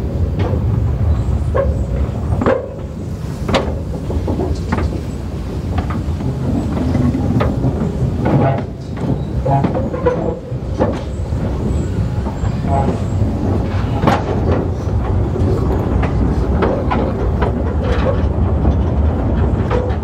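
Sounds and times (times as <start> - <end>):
train rumbling: 0.0 - 20.0
wheels clacking on track: 0.0 - 20.0.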